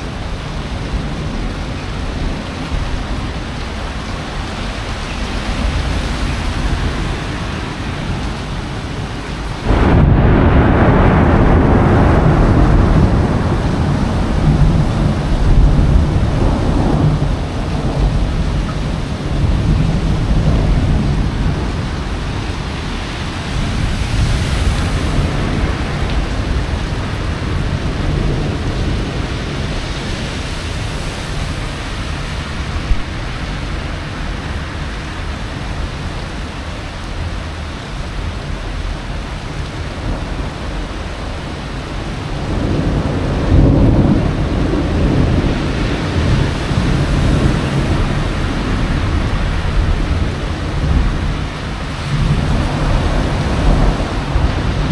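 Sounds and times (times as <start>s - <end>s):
thunder rumbling: 0.0s - 35.1s, 39.1s - 54.9s
rain falling: 0.0s - 54.9s.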